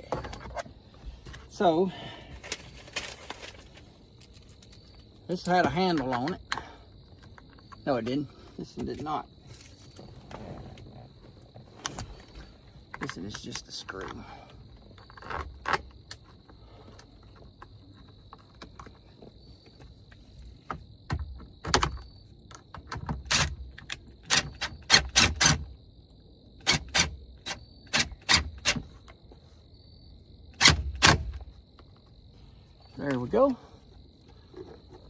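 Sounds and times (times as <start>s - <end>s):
cricket trill: 0.0s - 35.0s.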